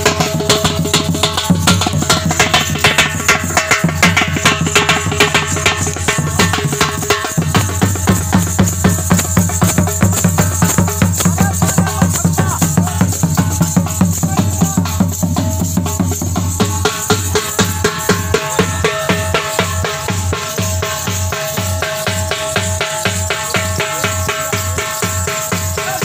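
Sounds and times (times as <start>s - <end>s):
kettle drums beaten fast: 0.0s - 26.0s
rattling jingle: 0.2s - 26.0s.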